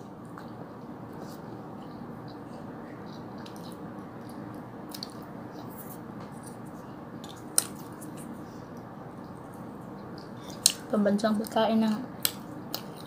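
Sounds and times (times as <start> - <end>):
low background hum: 0.0 - 13.0
faint chewing: 0.2 - 13.0.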